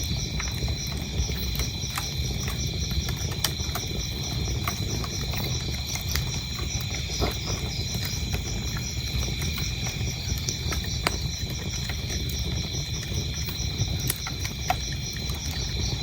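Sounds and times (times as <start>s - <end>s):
crickets chirping: 0.0s - 16.0s
wood fire crackling: 0.0s - 16.0s.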